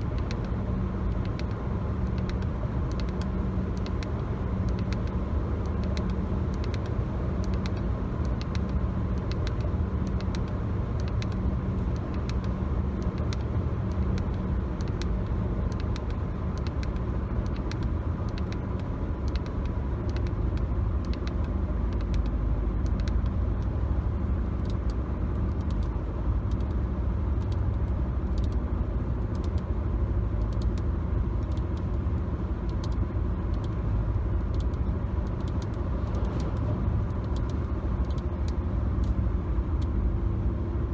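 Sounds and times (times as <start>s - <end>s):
road and engine rumble in car: 0.0s - 40.9s.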